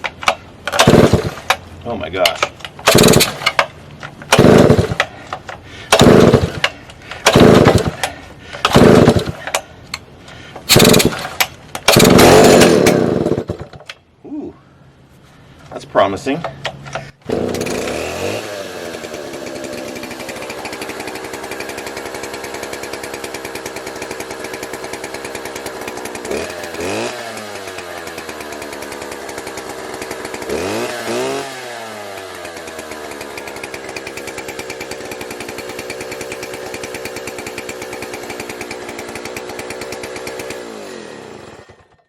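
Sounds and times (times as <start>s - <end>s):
chainsaw idling and revving: 0.2s - 9.7s, 10.6s - 13.8s, 17.2s - 42.0s.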